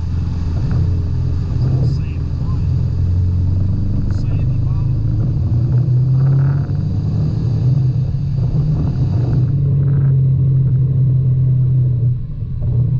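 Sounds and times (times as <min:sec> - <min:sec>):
vehicle engine droning: 0:00.0 - 0:12.9
vehicle rumbling over dirt trail: 0:00.0 - 0:12.9.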